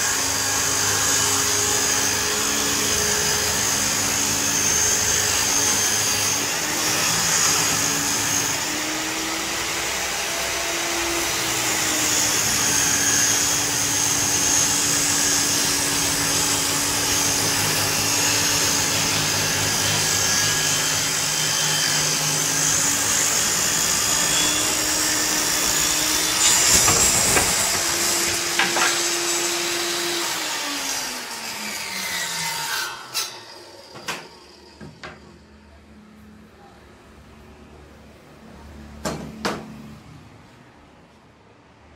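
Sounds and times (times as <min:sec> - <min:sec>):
table saw cutting wood: 0:00.0 - 0:35.5.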